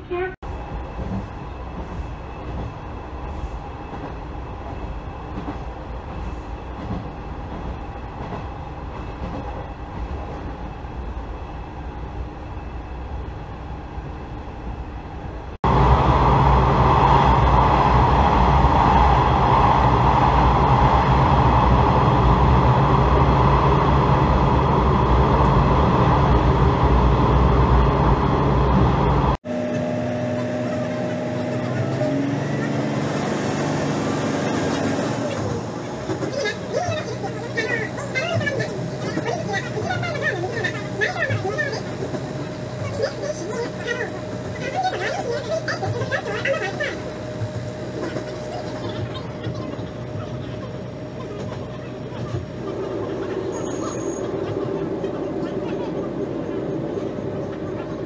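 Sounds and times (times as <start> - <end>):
railcar rumble from inside cabin: 0.0 - 58.0.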